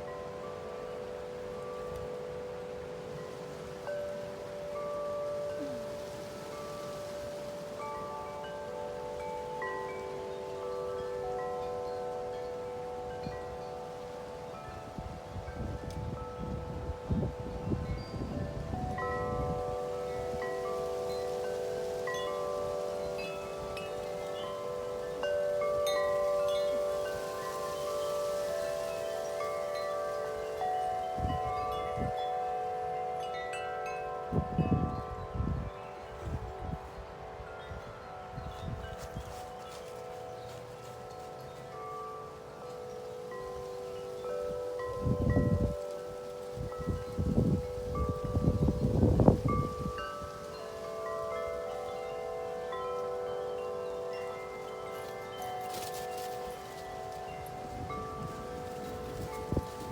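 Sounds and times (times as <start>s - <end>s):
rush of wind: 0.0s - 59.9s
wind chimes ringing: 0.0s - 59.9s.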